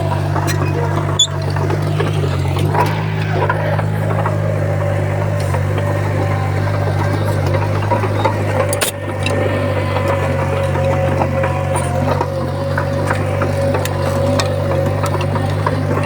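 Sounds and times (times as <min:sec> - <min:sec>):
bulldozer diesel engine drone: 0:00.0 - 0:16.0
high engine whine: 0:00.0 - 0:16.0.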